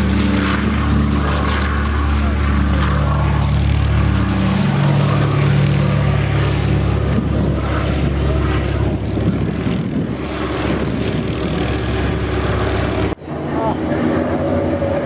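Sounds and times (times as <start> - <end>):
propeller engines droning: 0.0 - 15.0.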